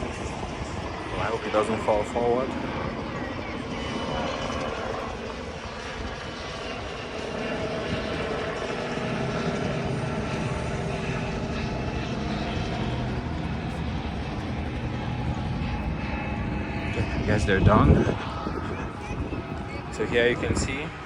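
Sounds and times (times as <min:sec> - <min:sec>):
propeller airplane engine running: 0:00.0 - 0:21.0.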